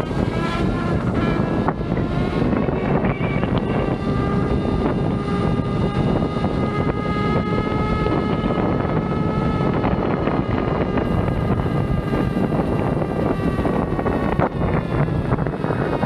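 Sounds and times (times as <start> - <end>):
hub motor whine: 0.0 - 16.0.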